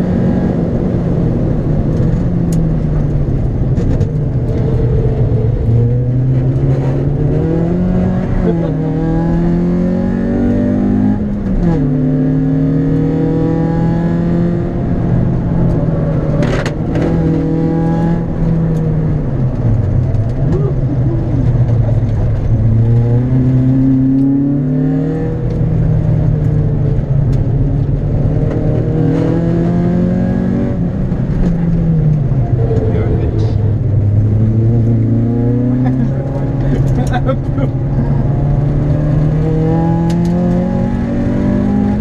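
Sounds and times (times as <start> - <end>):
car engine revving and shifting: 0.0 - 42.0.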